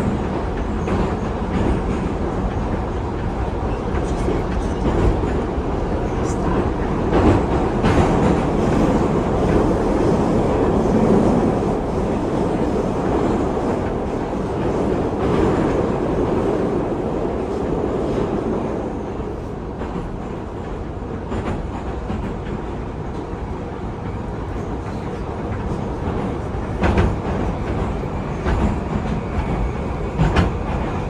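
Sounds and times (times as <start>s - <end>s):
metro train wheels rumbling on rail: 0.0s - 31.0s.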